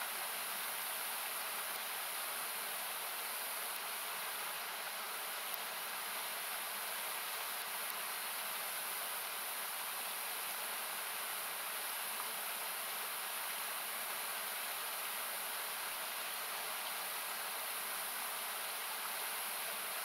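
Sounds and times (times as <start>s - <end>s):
faint campfire crackle: 0.0s - 20.0s
river water rushing: 0.0s - 20.0s.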